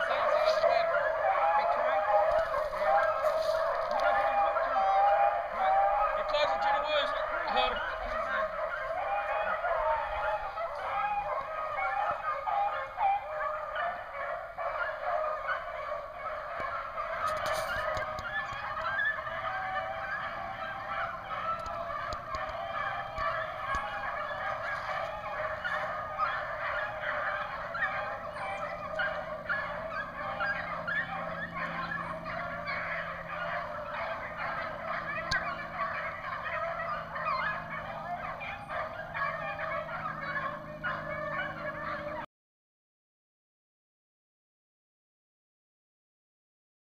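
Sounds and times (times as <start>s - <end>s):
hounds baying: 0.0s - 42.3s.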